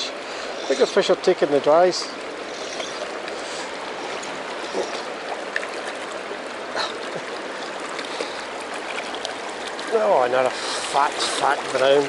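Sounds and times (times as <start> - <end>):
stream running over gravel: 0.0 - 12.0.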